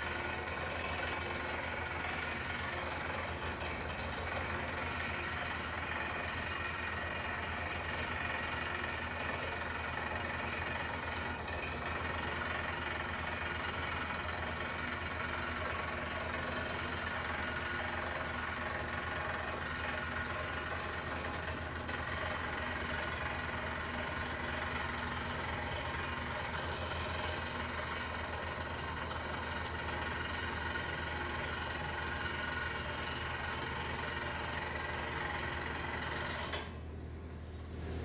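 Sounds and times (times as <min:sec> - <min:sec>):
drilling rig mechanical drone: 0:00.0 - 0:36.7
generator engine hum: 0:00.0 - 0:38.0.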